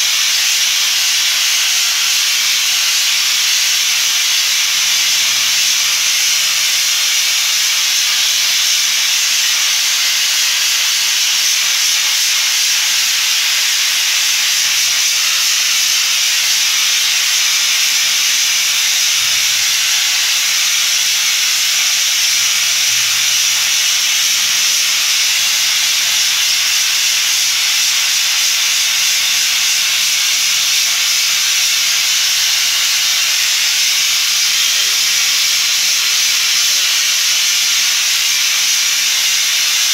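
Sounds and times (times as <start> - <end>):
air spray gun hissing: 0.0 - 39.9.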